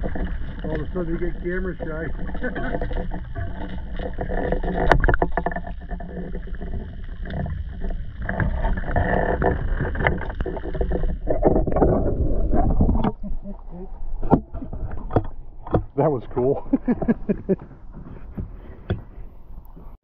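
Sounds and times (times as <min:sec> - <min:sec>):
underwater clicks and knocks: 0:00.0 - 0:19.9
muffled underwater rumble: 0:00.0 - 0:20.0.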